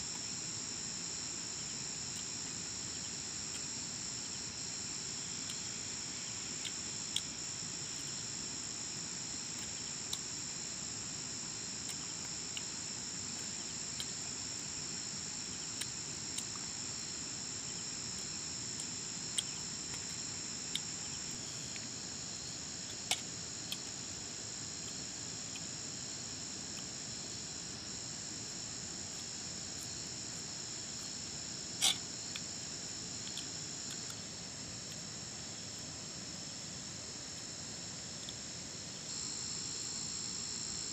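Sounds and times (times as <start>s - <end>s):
crickets and insects chirping: 0.0s - 40.9s.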